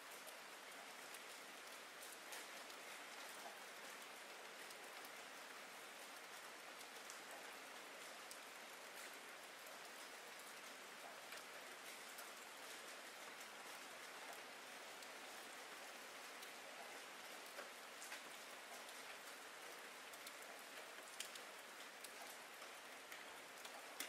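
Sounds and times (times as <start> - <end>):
faint rain: 0.0 - 24.0.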